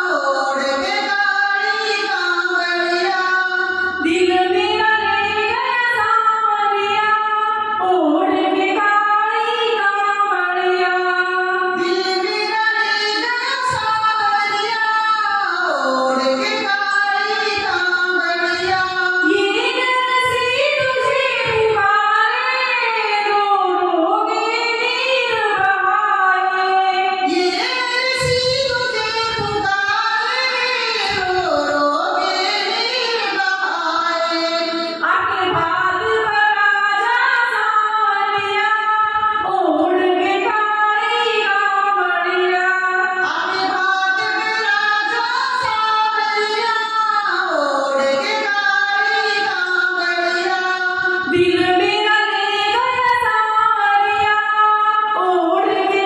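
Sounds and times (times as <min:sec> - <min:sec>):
woman singing into a microphone: 0:00.0 - 0:56.0.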